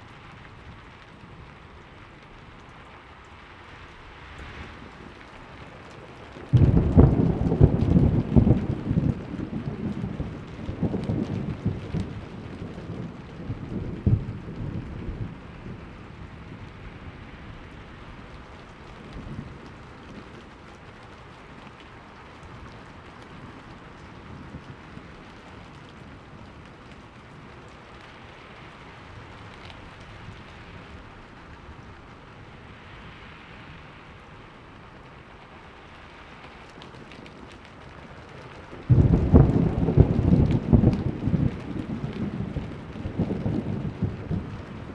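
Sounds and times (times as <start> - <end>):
rain falling: 0.0 - 44.9
thunder rumbling: 4.6 - 35.8, 36.5 - 44.9.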